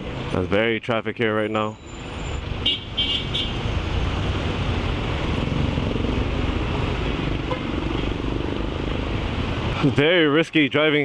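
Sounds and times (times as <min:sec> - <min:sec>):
scooter engine and road noise: 0:00.0 - 0:11.0.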